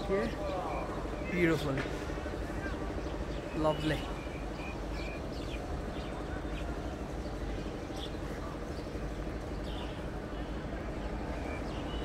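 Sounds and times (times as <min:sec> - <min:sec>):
birds chirping: 0:00.0 - 0:12.0
distant road traffic rumble: 0:00.0 - 0:12.0.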